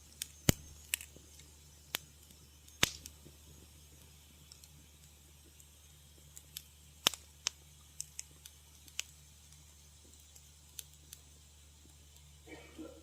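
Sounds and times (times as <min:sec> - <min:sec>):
faint steady hiss: 0:00.0 - 0:13.0
wood fire crackling: 0:00.0 - 0:13.0.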